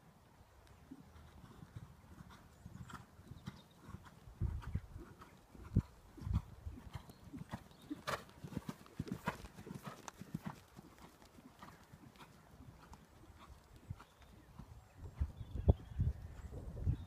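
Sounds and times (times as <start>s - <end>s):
horse hoofbeats on sand: 1.5s - 16.0s.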